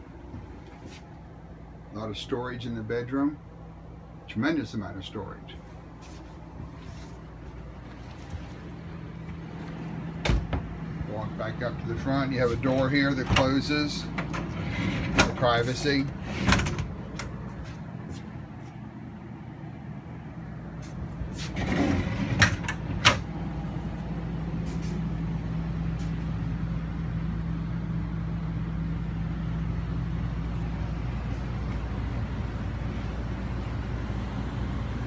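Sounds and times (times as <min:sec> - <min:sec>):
air conditioning humming: 0:00.0 - 0:35.0.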